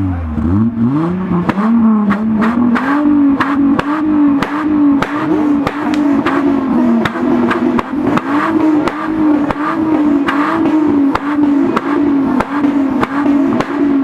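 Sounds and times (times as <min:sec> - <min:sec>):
car engine revving: 0:00.0 - 0:14.0
sharp cracks: 0:01.5 - 0:14.0.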